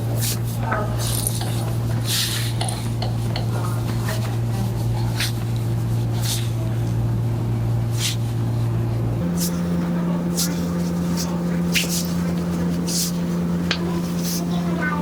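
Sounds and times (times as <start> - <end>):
massage gun humming: 0.0 - 15.0.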